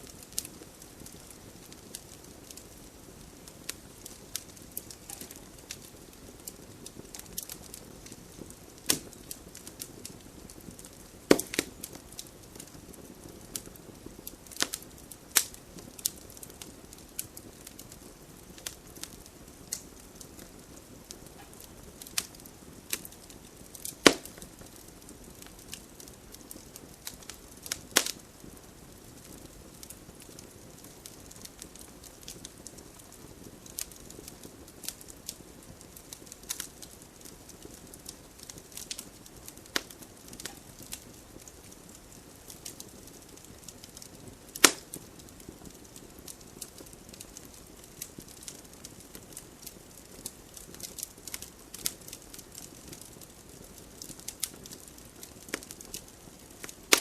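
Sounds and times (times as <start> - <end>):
campfire crackling and popping: 0.0 - 57.0
faint steady hiss: 0.0 - 57.0.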